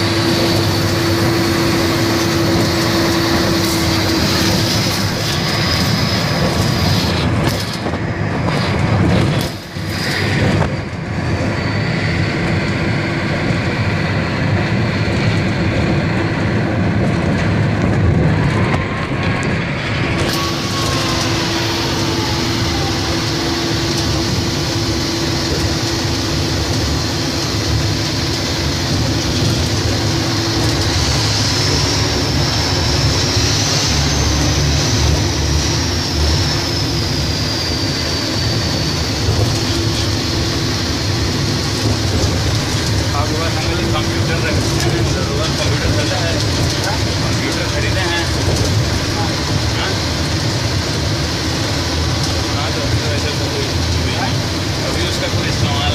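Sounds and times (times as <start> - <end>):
diesel truck engine drone: 0.0 - 55.9.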